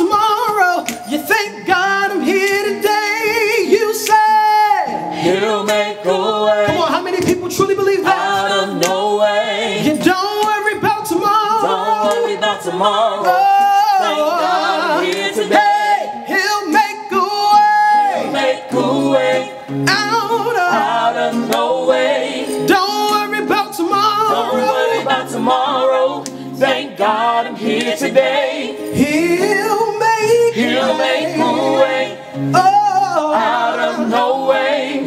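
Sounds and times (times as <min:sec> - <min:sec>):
man singing lead: 0:00.0 - 0:21.7, 0:22.5 - 0:35.0
acoustic guitar chords: 0:00.0 - 0:35.0
backing voices singing: 0:00.0 - 0:35.0.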